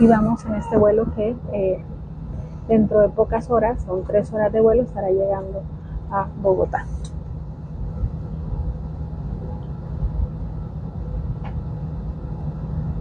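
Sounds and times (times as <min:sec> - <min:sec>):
airliner engines rumbling in cabin: 0:00.0 - 0:13.0
constant hum: 0:00.0 - 0:13.0.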